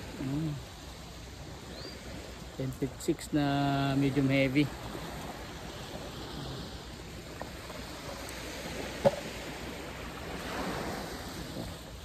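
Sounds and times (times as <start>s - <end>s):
gentle surf on beach: 0.0s - 12.0s.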